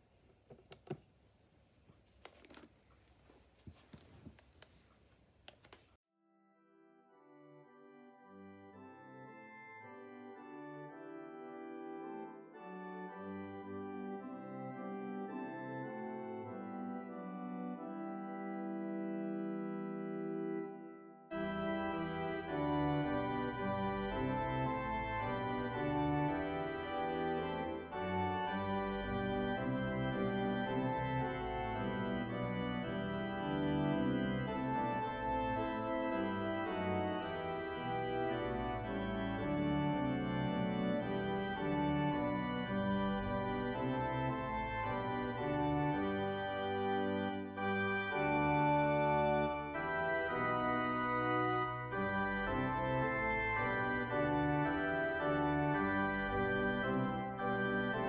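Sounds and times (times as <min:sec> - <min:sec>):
organ playing slow chords: 0:06.2 - 0:58.0.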